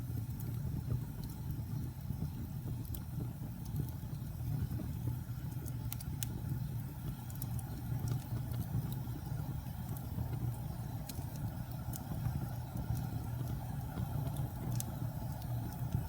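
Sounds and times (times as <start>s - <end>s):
fire crackles and pops: 0.0s - 16.0s
wood fire rumbling: 0.0s - 16.0s.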